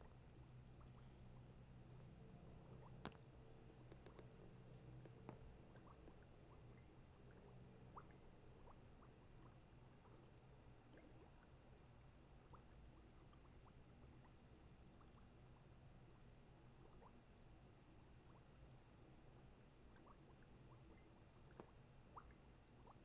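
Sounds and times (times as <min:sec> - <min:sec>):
faint room hum: 0:00.0 - 0:23.0
faint small clicks and ticks: 0:00.0 - 0:23.0.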